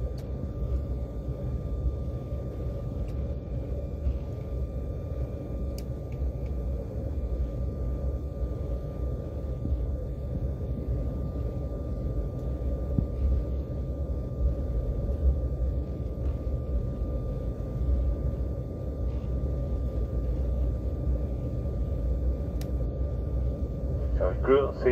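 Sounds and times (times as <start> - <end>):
faint steady whine: 0.0 - 24.9
jet engines low rumble: 0.0 - 24.9.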